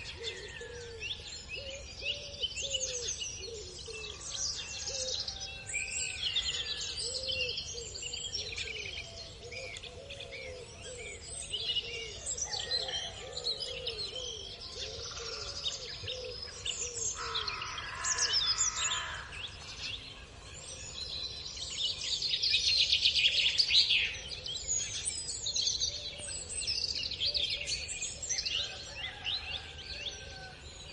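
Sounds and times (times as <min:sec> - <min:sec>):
small birds chirping and singing: 0:00.0 - 0:30.9.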